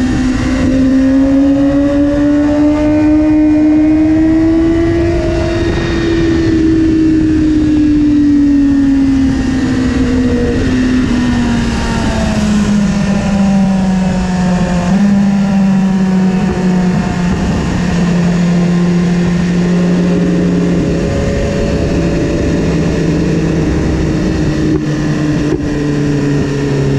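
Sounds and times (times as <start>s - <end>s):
motorcycle engine decelerating: 0.0s - 26.9s
wind rush on microphone: 0.0s - 26.9s.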